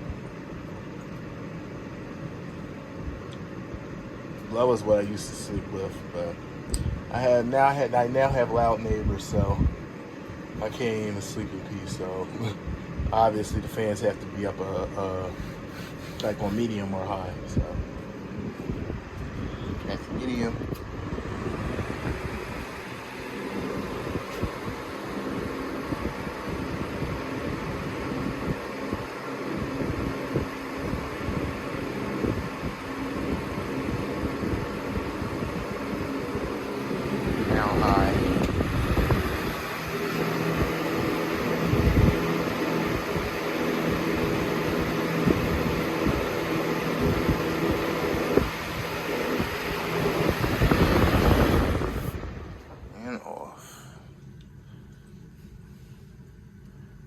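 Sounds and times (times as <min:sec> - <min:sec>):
box fan running: 0:00.0 - 0:57.0
faint steady hum: 0:00.0 - 0:57.0.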